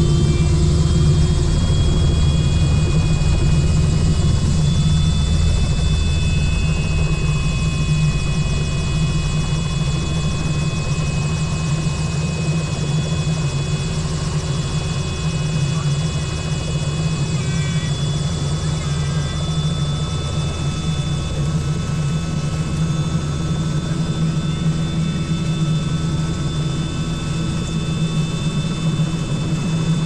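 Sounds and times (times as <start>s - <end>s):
helicopter rotor and engine drone: 0.0s - 30.0s
high turbine whine: 0.0s - 30.0s.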